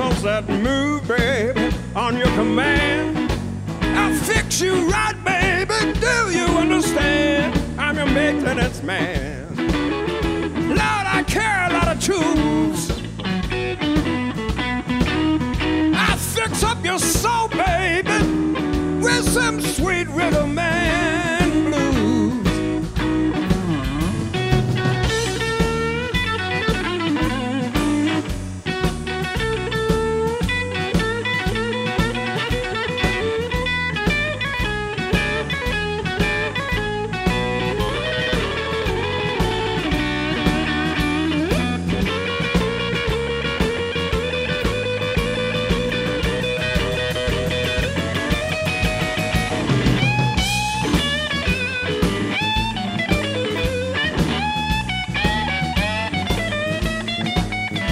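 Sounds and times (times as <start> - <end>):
bass: 0.0 - 57.9
drum kit: 0.0 - 57.9
lead guitar bending notes: 0.0 - 57.9.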